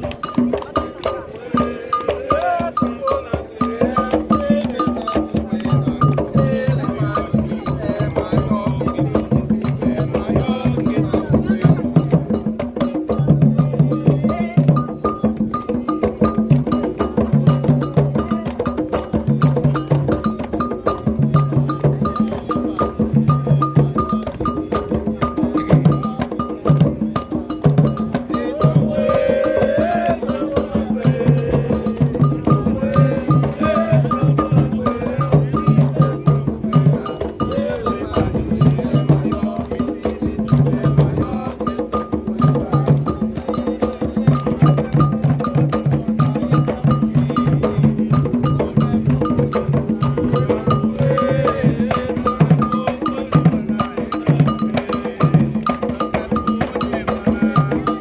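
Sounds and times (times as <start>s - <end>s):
hand drums playing fast rhythm: 0.0s - 58.0s.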